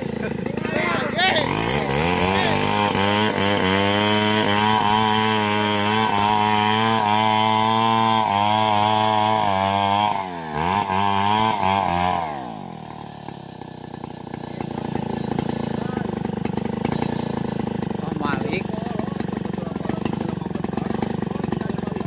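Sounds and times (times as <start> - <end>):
chainsaw running at high revs: 0.0 - 22.0.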